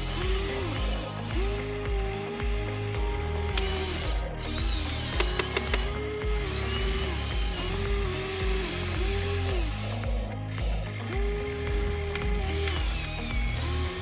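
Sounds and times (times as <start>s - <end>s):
background music with bass beat: 0.0s - 14.0s
electric motors whining: 0.0s - 14.0s
sharp clicks: 0.0s - 14.0s.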